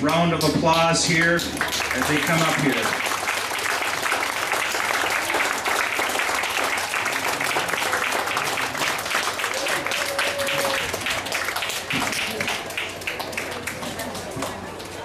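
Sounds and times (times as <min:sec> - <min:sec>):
audience applauding: 0:01.2 - 0:15.0.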